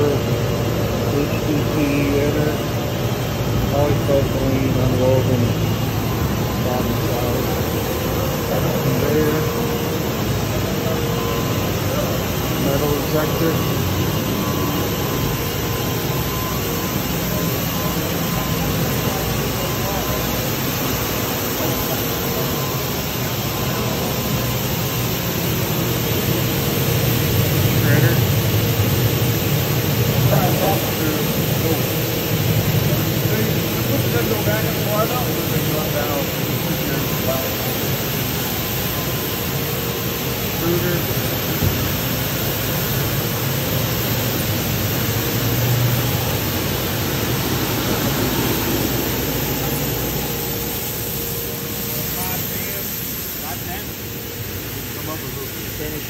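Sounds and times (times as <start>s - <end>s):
machinery noise: 0.0s - 56.0s.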